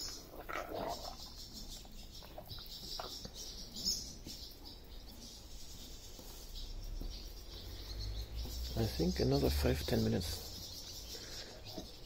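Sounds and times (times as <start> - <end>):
swallows twittering: 0.0 - 12.0.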